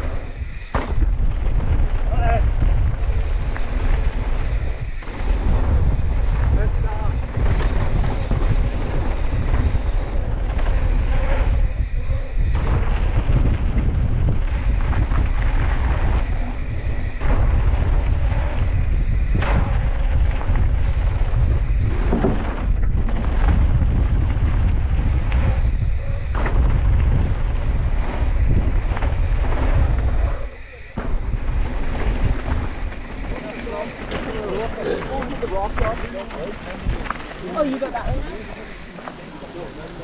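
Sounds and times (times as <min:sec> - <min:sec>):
bike knocks and rattles: 0:00.0 - 0:37.7
wind buffeting microphone: 0:00.0 - 0:40.0.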